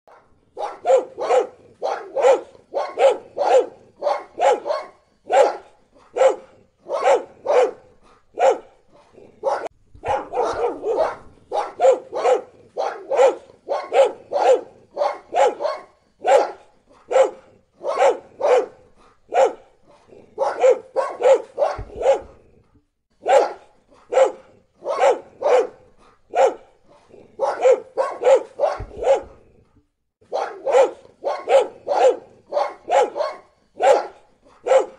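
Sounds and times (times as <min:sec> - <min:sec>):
dog barking loudly: 0:00.1 - 0:22.4, 0:23.2 - 0:29.5, 0:30.2 - 0:34.9.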